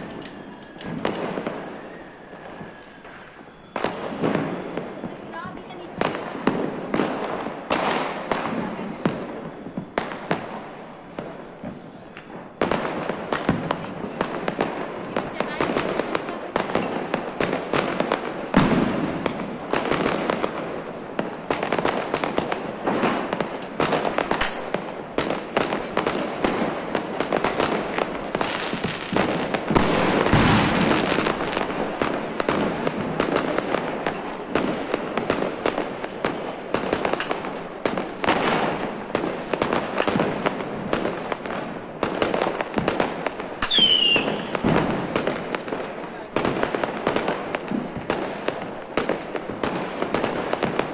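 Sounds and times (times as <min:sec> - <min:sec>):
whistling firework: 0:00.0 - 0:48.4
firecrackers bursting: 0:00.0 - 0:50.9.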